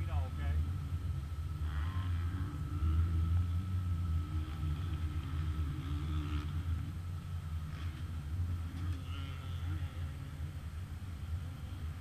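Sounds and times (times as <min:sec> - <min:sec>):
steady low rumble: 0:00.0 - 0:12.0
wavering drone: 0:00.0 - 0:12.0.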